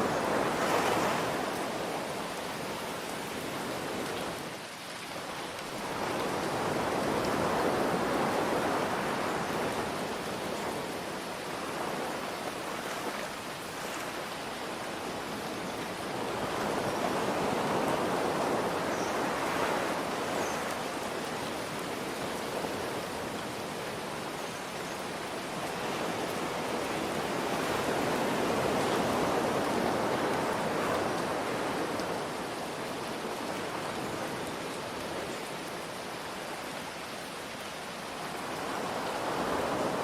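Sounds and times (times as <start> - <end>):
ocean surf waves: 0.0 - 40.0
rain falling: 0.0 - 40.0.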